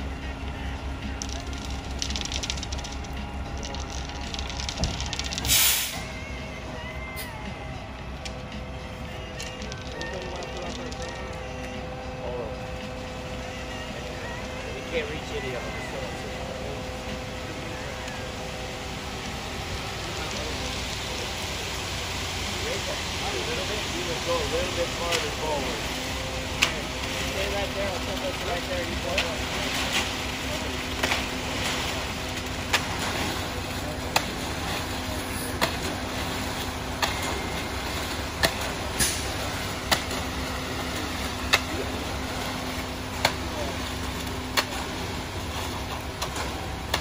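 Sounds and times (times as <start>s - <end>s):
truck engine running: 0.0s - 47.0s
wet concrete pouring down chute: 0.0s - 47.0s.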